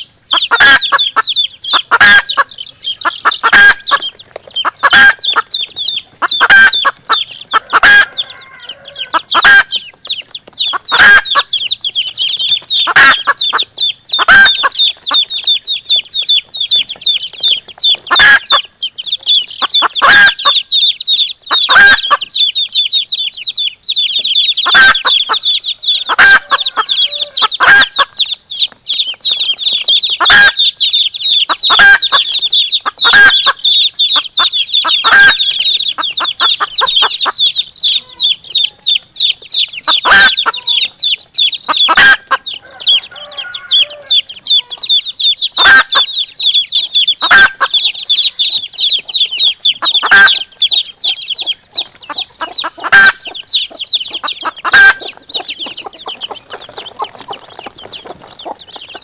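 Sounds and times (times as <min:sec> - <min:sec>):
chicks peeping: 0:00.0 - 0:59.0
hen clucking: 0:00.0 - 0:59.0.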